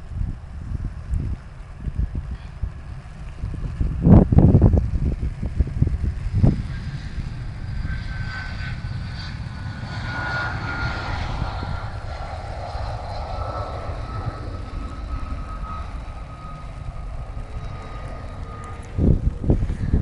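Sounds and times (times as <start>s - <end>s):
jet engines rumbling and whining: 0.0s - 20.0s.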